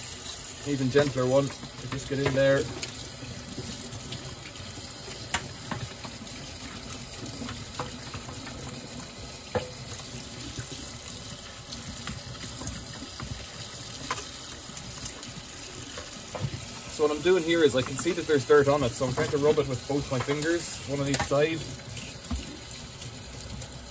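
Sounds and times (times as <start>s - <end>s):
tap water running into sink: 0.0s - 23.9s.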